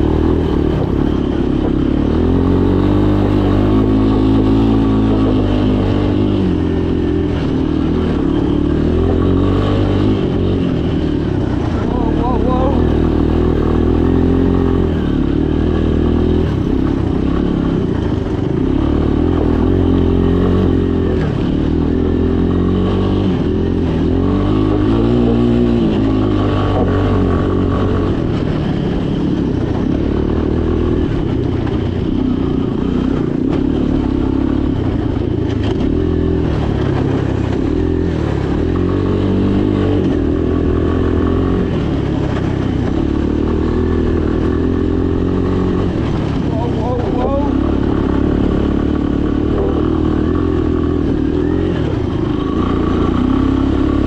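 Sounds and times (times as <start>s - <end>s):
atv engine under load: 0.0s - 54.0s.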